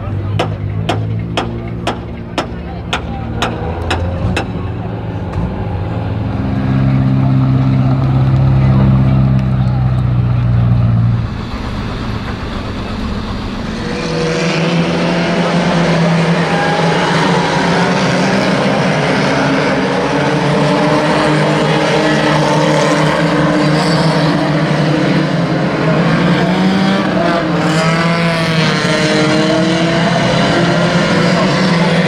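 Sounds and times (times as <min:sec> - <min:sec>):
racing car engines revving: 0:00.0 - 0:32.0.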